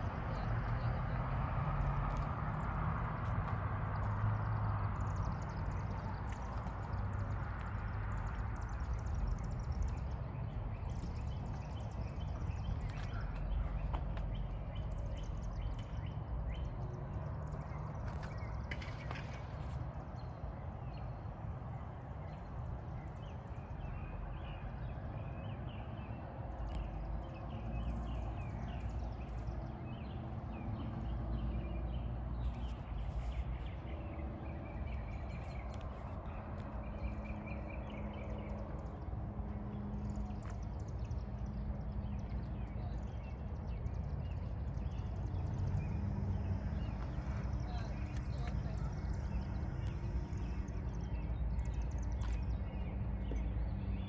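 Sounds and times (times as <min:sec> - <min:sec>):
birds chirping: 0:00.0 - 0:54.0
steady low rumble: 0:00.0 - 0:54.0.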